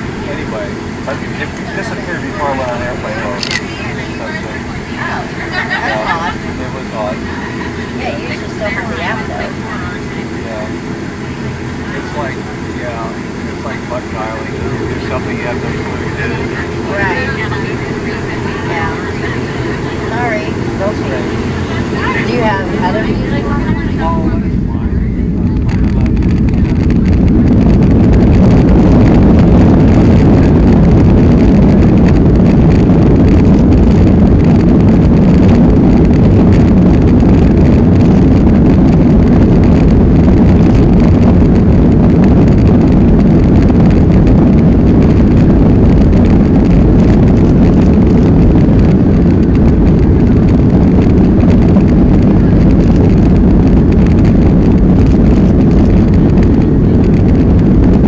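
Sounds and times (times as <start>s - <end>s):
jet engines roaring: 0.0s - 58.0s
rushing air: 0.0s - 58.0s.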